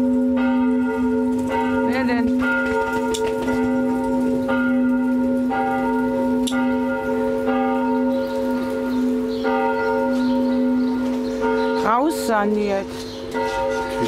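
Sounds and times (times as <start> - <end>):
church bell ringing: 0.0 - 14.0.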